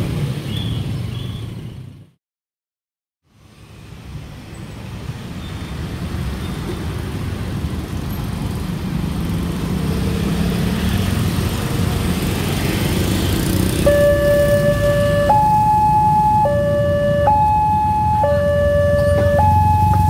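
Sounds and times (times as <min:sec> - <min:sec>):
scooters and cars driving past: 0:00.0 - 0:02.1, 0:03.4 - 0:20.0.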